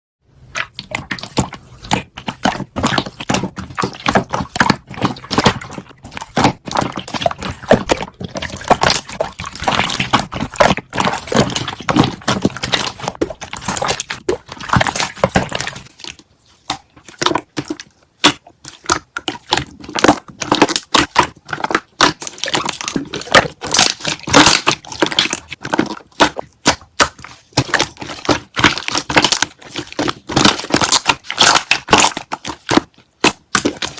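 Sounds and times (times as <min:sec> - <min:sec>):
slime squeezed with popping bubbles: 0:00.4 - 0:33.9.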